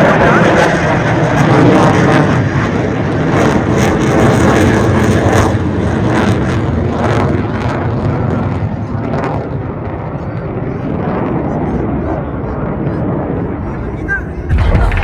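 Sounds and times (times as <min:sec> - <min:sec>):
jet aircraft flying over: 0:00.0 - 0:15.0.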